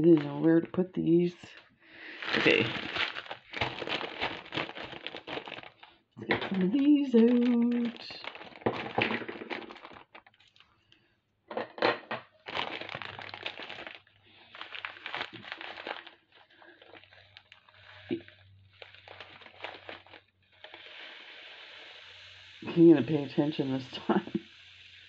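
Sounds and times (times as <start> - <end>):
plastic bag crinkling: 0.0 - 11.0, 12.2 - 22.0.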